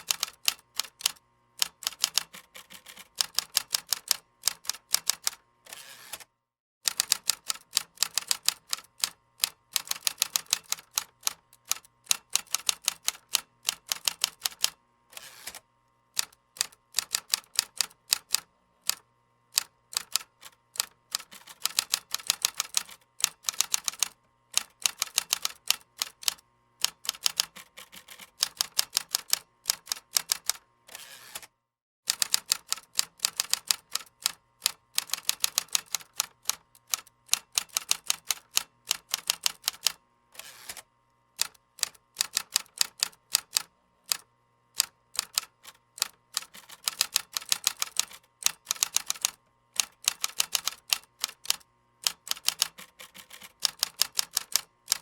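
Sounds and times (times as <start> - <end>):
keyboard typing: 0.0 - 5.4, 6.9 - 14.7, 19.6 - 30.6, 32.1 - 40.0, 41.4 - 44.2, 44.8 - 55.0.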